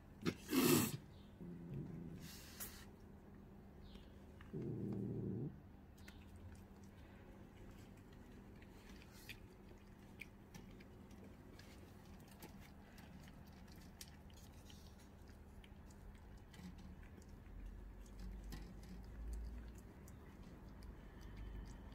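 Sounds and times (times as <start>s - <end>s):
cat chewing and licking: 0.1s - 21.9s.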